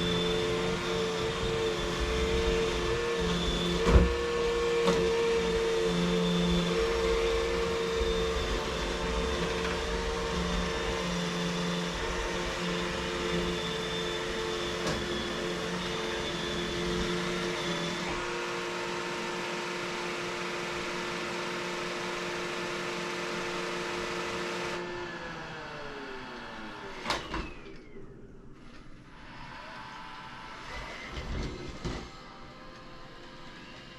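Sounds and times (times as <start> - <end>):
vacuum motor spinning down: 0.0 - 28.2
vacuum cleaner running: 0.0 - 33.9.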